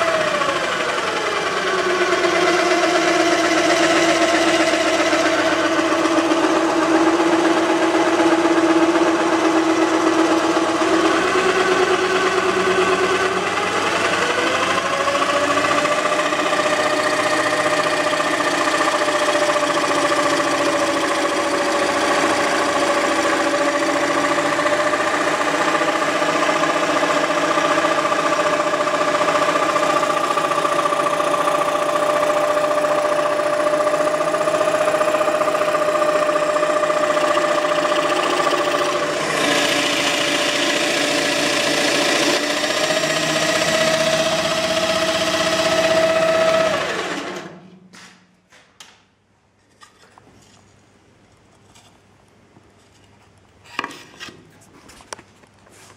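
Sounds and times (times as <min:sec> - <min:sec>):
scroll saw cutting wood: 0:00.0 - 0:47.6.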